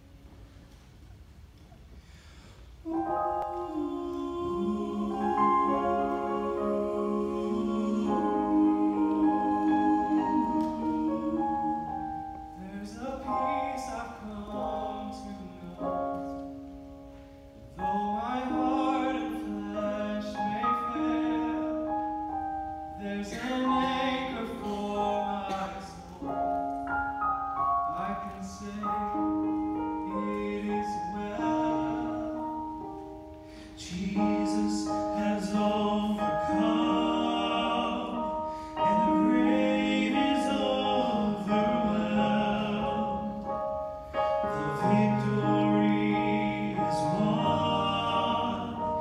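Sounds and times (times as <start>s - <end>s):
instrumental held chords: 0.0s - 49.0s
male vocal quartet singing: 2.9s - 16.5s, 17.8s - 49.0s.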